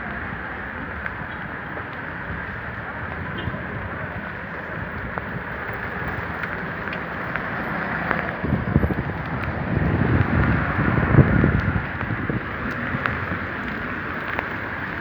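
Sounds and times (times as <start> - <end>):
wind buffeting microphone: 0.0 - 15.0
heavy rain falling: 0.1 - 15.0.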